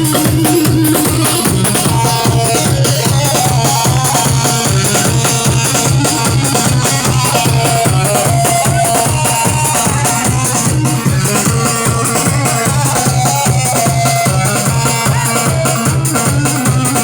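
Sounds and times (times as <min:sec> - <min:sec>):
driving drum beat: 0:00.0 - 0:17.0.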